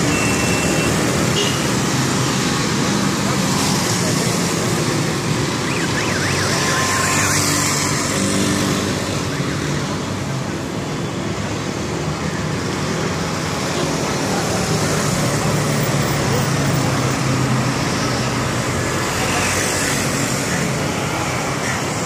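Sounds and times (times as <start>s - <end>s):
city road traffic: 0.0s - 22.0s
motorcycles passing: 0.0s - 22.0s.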